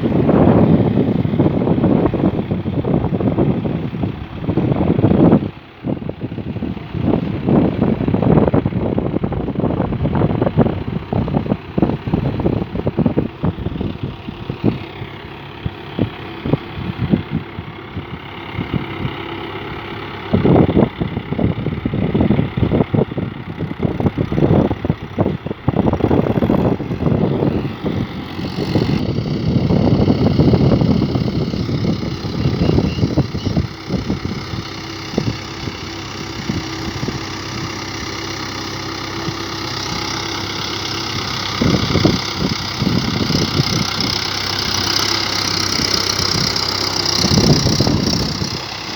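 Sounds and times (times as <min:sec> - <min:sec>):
tractor diesel engine chugging: 0:00.0 - 0:48.9.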